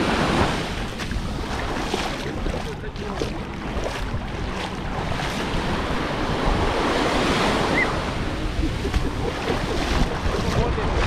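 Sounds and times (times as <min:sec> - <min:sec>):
surf washing onto beach: 0:00.0 - 0:11.0
wave breaking: 0:00.0 - 0:11.0
wind buffeting microphone: 0:00.0 - 0:11.0.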